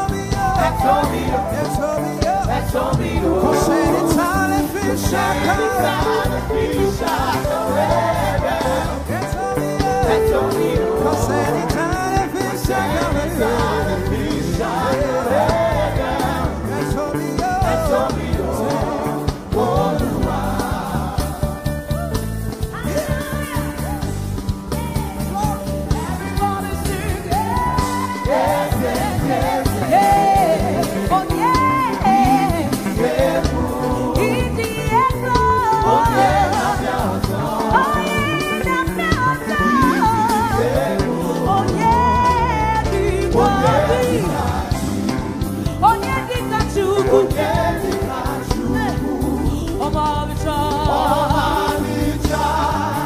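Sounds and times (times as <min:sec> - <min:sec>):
gospel voices singing: 0:00.0 - 0:53.0.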